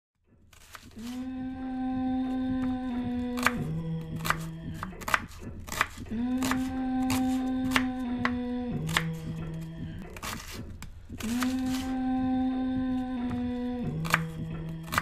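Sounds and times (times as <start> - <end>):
slow background music: 0.3 - 15.0.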